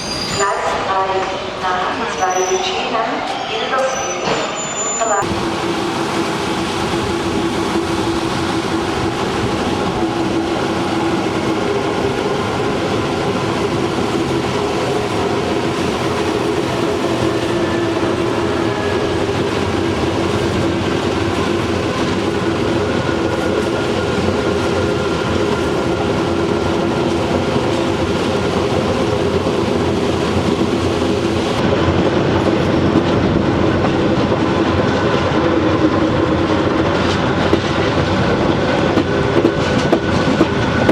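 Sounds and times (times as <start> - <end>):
train rumbling along track: 0.0 - 40.9
wheels clickety-clack: 6.2 - 40.9.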